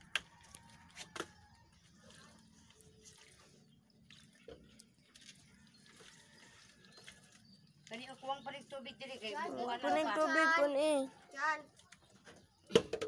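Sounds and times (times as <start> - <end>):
water trickling onto soil: 0.0 - 12.7.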